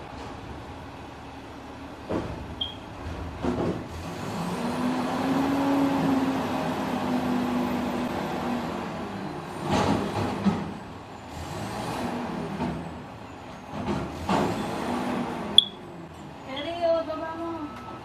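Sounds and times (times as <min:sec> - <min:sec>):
garbage truck engine running: 0:00.0 - 0:16.4.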